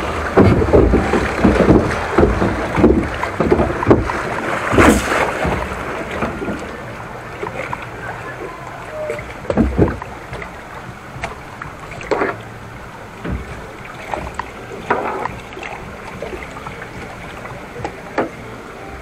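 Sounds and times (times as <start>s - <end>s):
rushing water: 0.0s - 19.0s
water slapping against raft: 0.0s - 19.0s.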